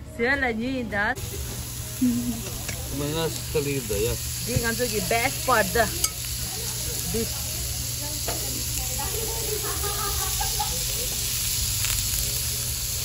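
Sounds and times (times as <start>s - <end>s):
meat sizzling on a grill: 1.2s - 13.0s.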